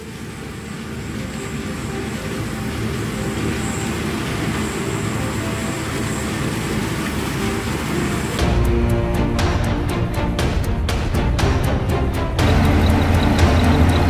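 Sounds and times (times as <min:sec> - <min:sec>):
diesel engine rumble with whine: 0:00.0 - 0:14.0.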